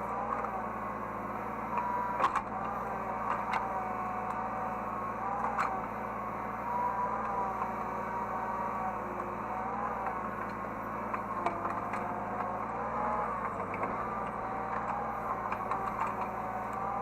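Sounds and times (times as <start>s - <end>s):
excavator engine drone: 0.0s - 17.0s
hydraulic whine: 0.0s - 17.0s.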